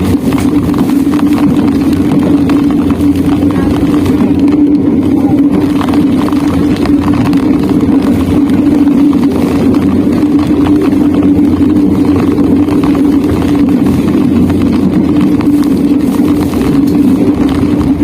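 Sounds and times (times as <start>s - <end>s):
rain ticks: 0.0s - 18.0s
train hum and rumble: 0.0s - 18.0s.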